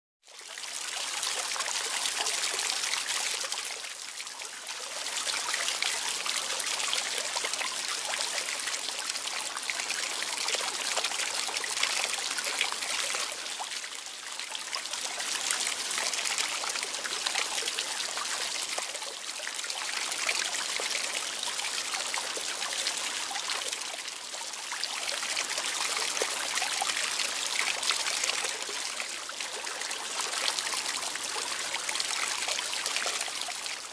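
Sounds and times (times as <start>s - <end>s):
water trickling and splashing: 0.2s - 33.9s.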